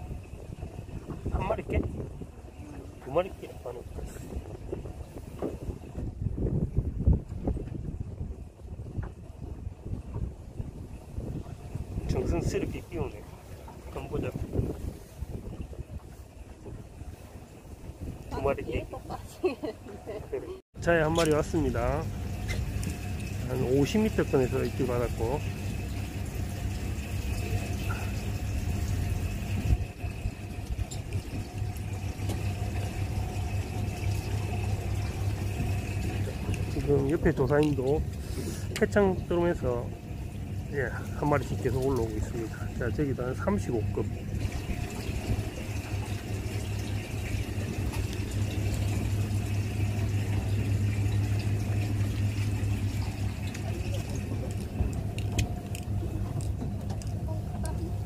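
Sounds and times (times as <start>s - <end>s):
boat engine humming: 0.0s - 58.0s
water washing against hull: 0.0s - 58.0s.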